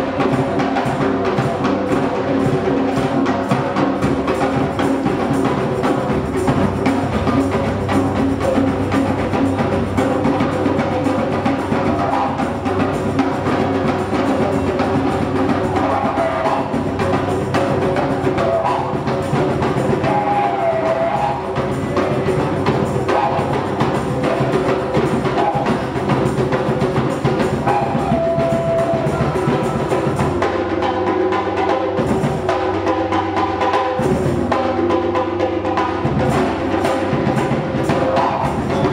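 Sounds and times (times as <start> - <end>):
didgeridoo drone: 0.0 - 38.9
hand drums beating: 0.0 - 38.9.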